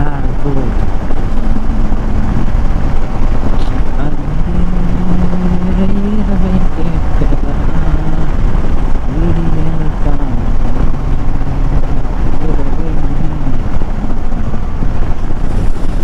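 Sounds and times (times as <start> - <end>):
motorcycle engine cruising: 0.0 - 16.0
wind rumble on microphone: 0.0 - 16.0.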